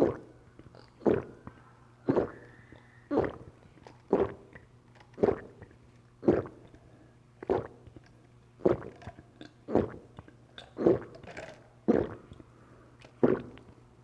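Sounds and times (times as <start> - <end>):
person gulping a drink: 0.0 - 13.8.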